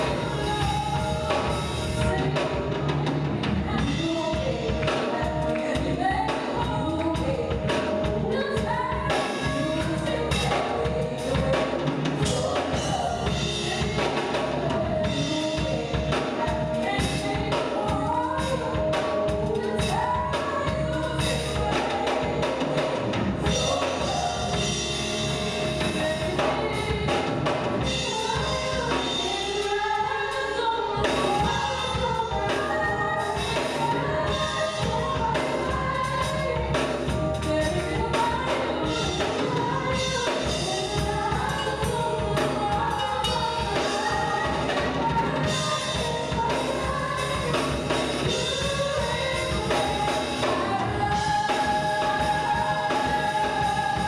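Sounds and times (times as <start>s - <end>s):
music with drums: 0.0s - 54.0s
women singing gospel: 0.0s - 54.0s.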